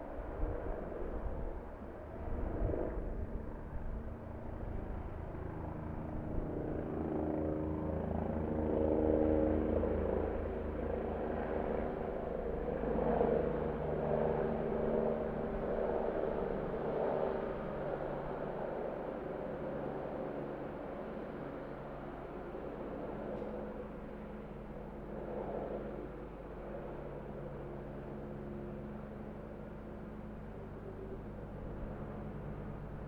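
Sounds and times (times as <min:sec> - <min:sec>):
helicopter engine hum: 0:00.0 - 0:33.0.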